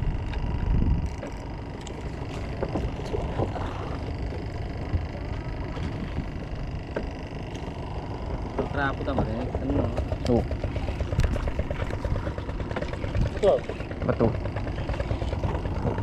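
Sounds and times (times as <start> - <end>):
motor running: 0.0 - 16.0.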